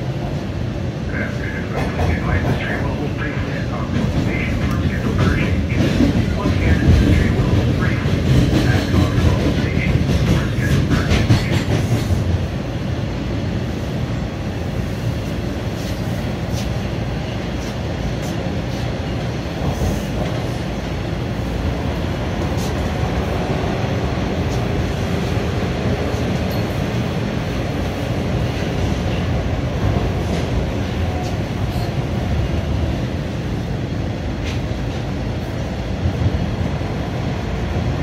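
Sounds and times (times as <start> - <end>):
subway train rumbling: 0.0 - 38.0.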